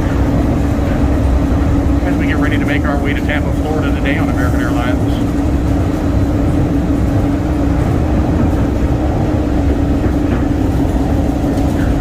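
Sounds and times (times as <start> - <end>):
constant hum: 0.0 - 12.0
train car rumble: 0.0 - 12.0.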